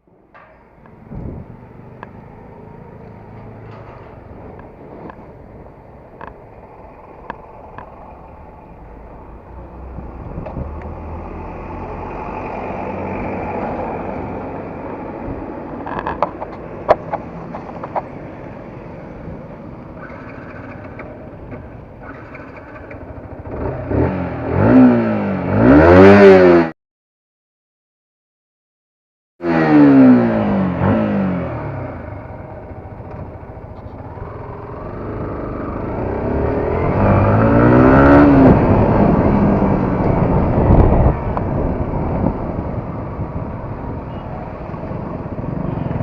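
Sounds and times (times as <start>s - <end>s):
motorcycle engine: 0.0s - 26.7s, 29.4s - 46.0s
road noise: 0.0s - 26.7s, 29.4s - 46.0s.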